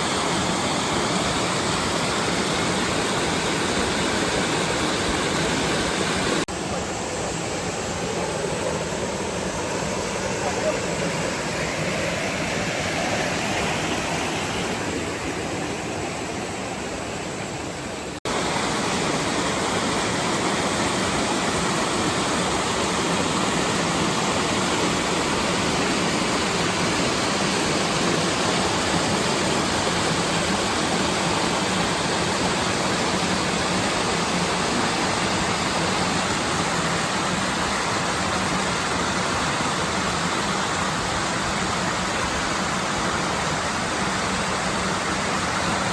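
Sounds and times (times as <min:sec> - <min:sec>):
stream water rushing over rocks: 0:00.0 - 0:45.9.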